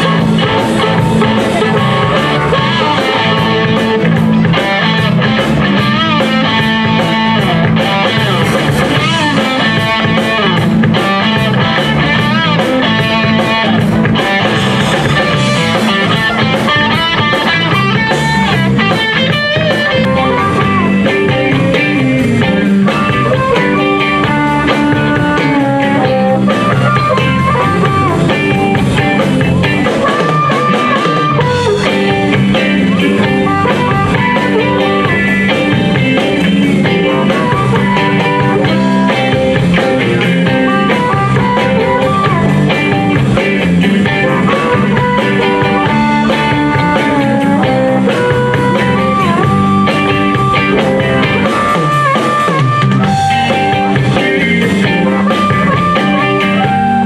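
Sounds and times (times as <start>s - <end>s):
drum kit: 0.0s - 57.0s
electric guitar lines: 0.0s - 57.0s.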